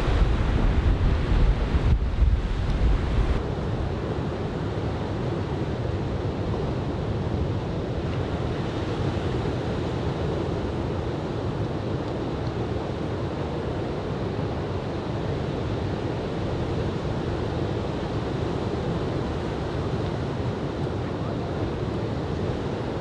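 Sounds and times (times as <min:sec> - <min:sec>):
surf breaking on a beach: 0:00.0 - 0:23.0
wind on the microphone: 0:00.0 - 0:23.0.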